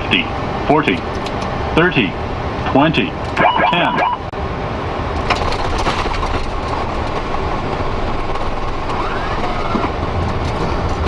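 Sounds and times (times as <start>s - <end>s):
aircraft engine noise: 0.0s - 11.0s
wheels rumbling on runway: 0.0s - 11.0s.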